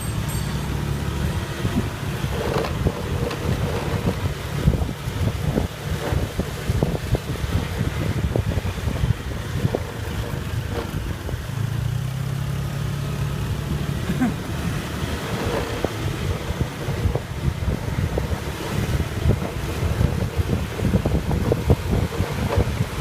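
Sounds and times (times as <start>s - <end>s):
motorbike engine running: 0.0s - 23.0s
wind buffeting microphone: 0.7s - 11.8s, 14.6s - 23.0s.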